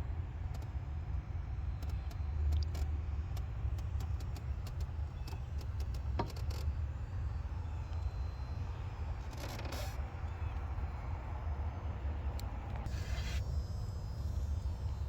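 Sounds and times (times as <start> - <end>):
car engine idling: 0.3 - 13.4.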